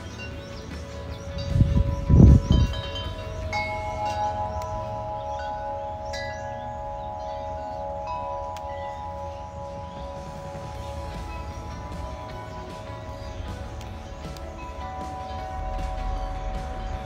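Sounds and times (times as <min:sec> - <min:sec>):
tubular wind chime ringing: 0:00.0 - 0:17.0.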